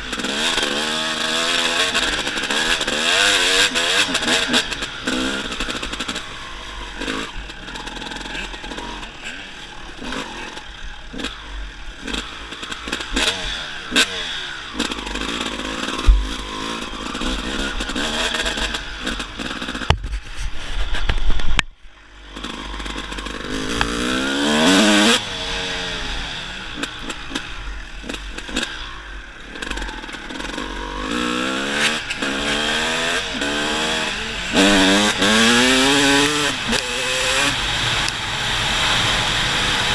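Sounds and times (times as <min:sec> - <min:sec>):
dirt bike engine revving: 0:00.0 - 0:20.2, 0:22.0 - 0:39.9.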